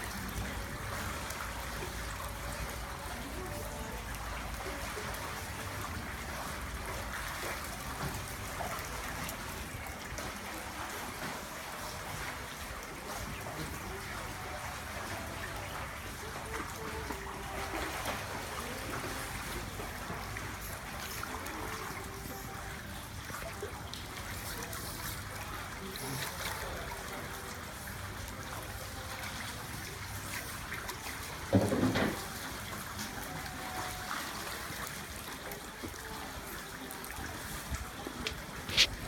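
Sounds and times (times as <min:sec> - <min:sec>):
water trickling: 0:00.0 - 0:39.0.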